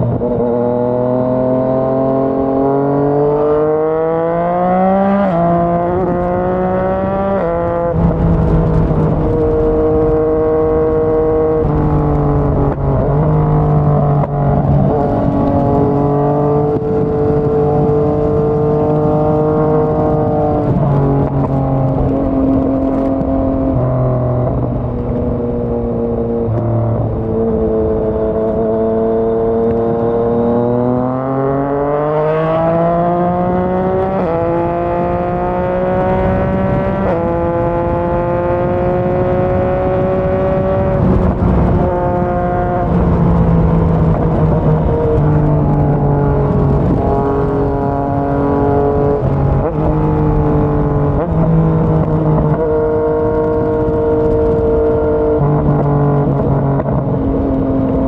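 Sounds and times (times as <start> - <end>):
motorcycle engine at road speed: 0.0 - 58.0.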